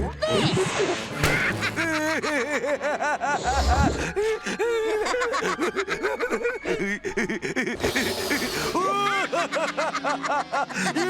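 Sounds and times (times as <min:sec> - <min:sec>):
cartoon characters laughing: 0:00.0 - 0:11.0.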